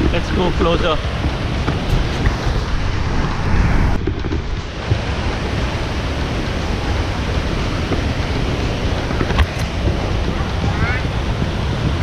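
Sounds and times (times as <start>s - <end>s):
waterfall roaring: 0.0s - 12.0s
wind buffeting microphone: 0.0s - 12.0s.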